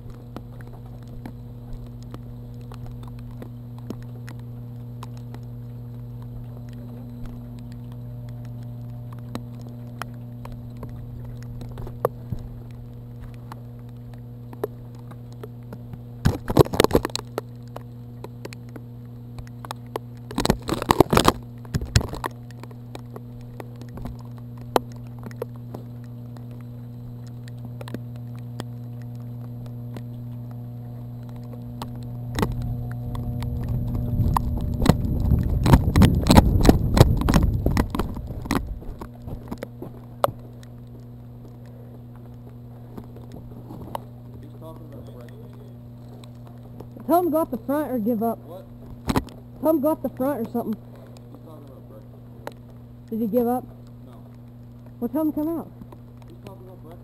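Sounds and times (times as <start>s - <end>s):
low hum: 0.0s - 57.0s
rain pattering on camera: 0.0s - 57.0s.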